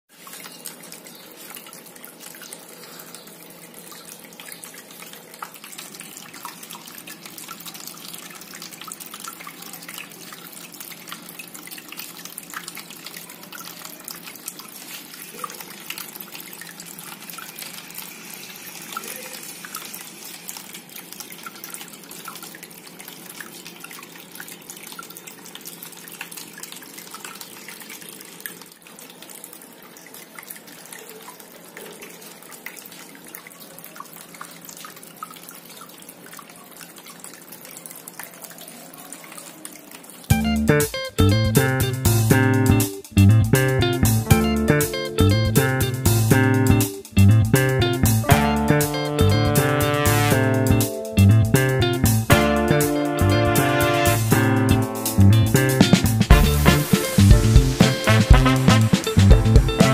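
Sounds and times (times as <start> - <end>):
water running and splashing: 0.1 - 59.9.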